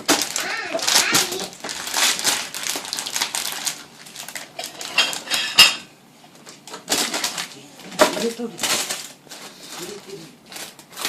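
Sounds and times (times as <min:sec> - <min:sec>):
hard objects clattering: 0:00.0 - 0:11.0.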